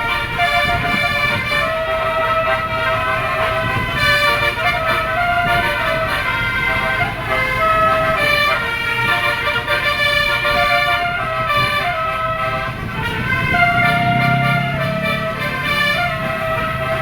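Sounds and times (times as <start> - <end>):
bus engine running: 0.0 - 17.0
multi-tone air horn tune: 0.0 - 17.0.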